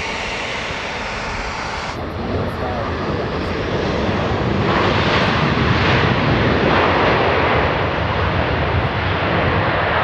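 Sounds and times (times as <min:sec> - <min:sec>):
aircraft engine passing: 0:00.0 - 0:08.5.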